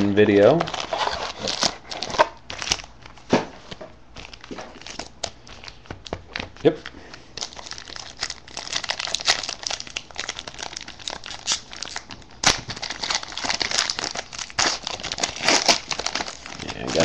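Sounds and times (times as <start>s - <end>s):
foil wrapper crinkling and tearing: 0.3s - 3.2s, 4.2s - 17.0s.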